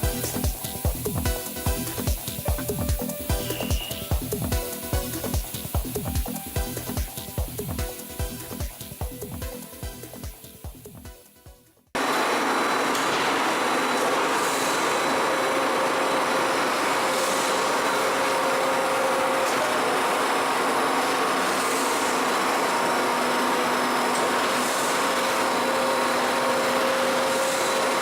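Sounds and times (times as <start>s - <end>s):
machine whirring: 0.0s - 11.0s, 12.0s - 28.0s.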